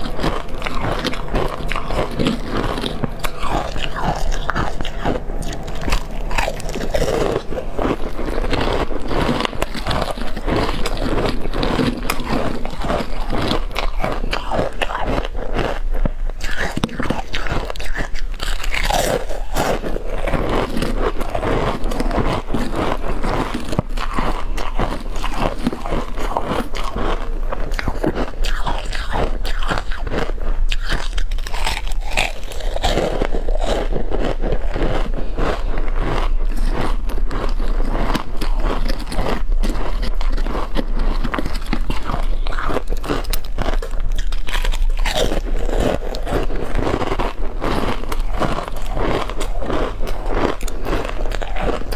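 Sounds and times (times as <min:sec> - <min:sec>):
ice crunching between teeth: 0:00.0 - 0:51.9.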